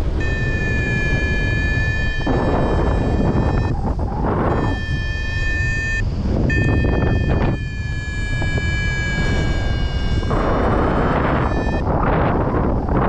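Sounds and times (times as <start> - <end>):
continuous electronic tone: 0.0 - 13.0
wind buffeting microphone: 0.0 - 13.0.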